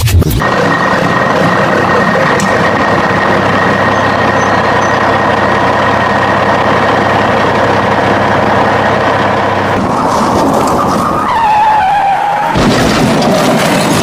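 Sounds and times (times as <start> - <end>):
truck engine running steadily: 0.4 - 14.0.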